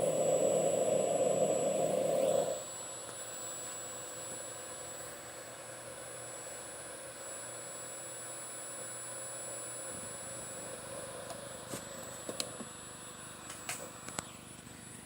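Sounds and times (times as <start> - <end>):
machine hum with high whine: 0.0 - 15.0.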